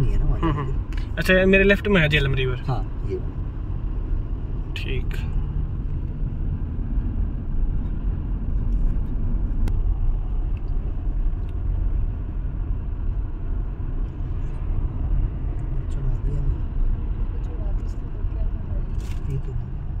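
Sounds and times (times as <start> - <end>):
road and engine rumble in car: 0.0 - 20.0.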